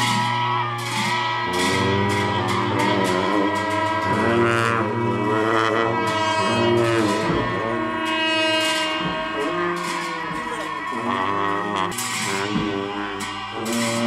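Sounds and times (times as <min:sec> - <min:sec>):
long horns deep drone: 0:00.0 - 0:14.0
percussion strikes: 0:00.0 - 0:14.0
wavering higher horn lines: 0:00.0 - 0:14.0.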